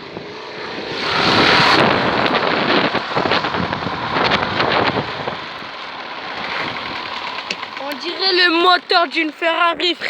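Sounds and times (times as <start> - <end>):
bike spokes rattling: 1.4 - 10.0.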